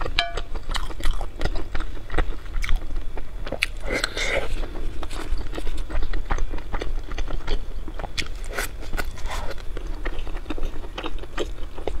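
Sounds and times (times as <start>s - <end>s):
chewing and mouth clicks: 0.0s - 12.0s
steady low hum: 0.0s - 12.0s.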